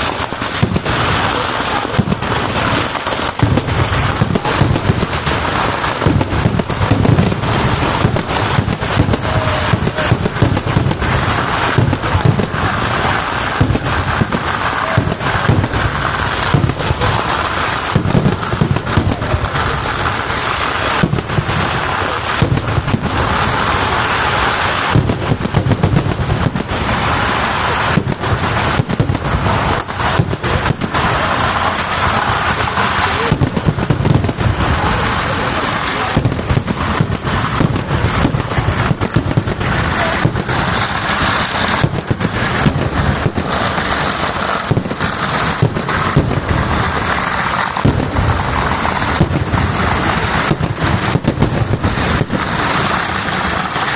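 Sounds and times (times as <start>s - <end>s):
firecrackers and fireworks banging: 0.0s - 53.9s.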